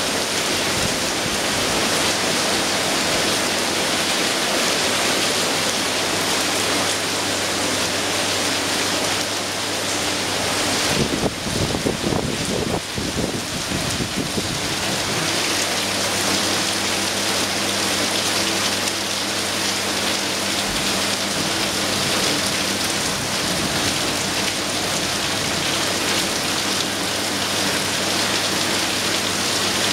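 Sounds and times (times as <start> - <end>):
heavy rain on pavement: 0.0 - 29.9.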